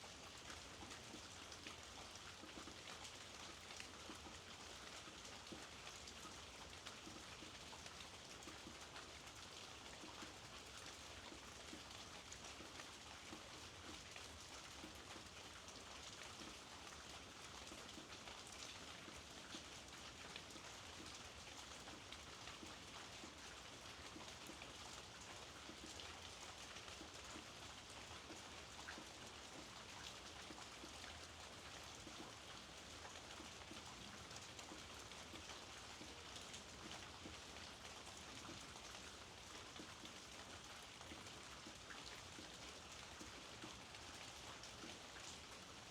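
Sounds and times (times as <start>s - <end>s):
faint rain pattering: 0.0s - 45.9s.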